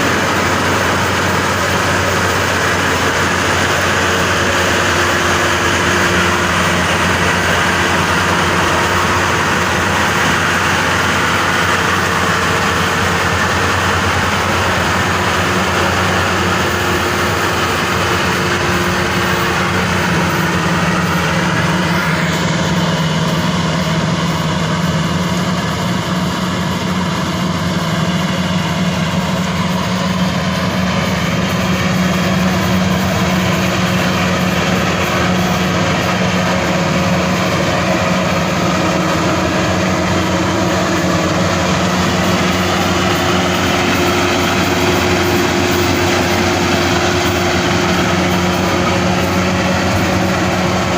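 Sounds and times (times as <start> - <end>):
combine harvester engine hum: 0.0 - 50.9
steady higher whine: 0.0 - 50.9.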